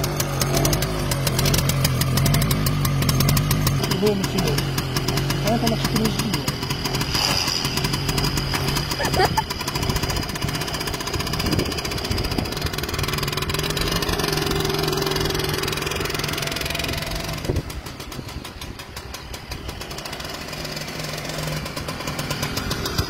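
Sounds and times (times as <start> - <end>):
moped engine running: 0.0 - 23.0.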